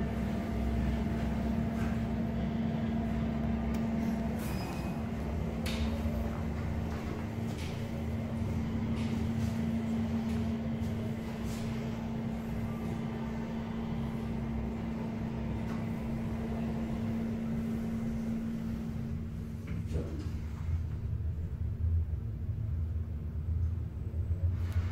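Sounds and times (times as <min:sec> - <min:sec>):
elevator electrical hum: 0:00.0 - 0:24.9.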